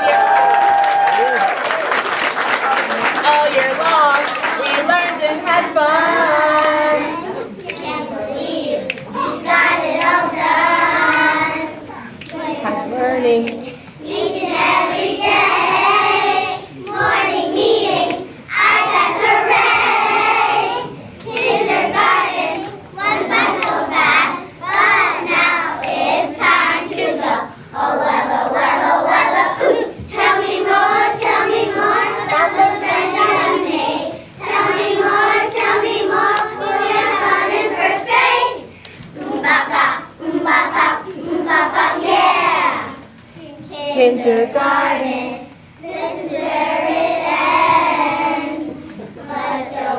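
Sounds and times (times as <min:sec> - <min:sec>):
children singing in a choir: 0:05.6 - 0:12.8, 0:14.0 - 0:43.0, 0:44.8 - 0:49.9.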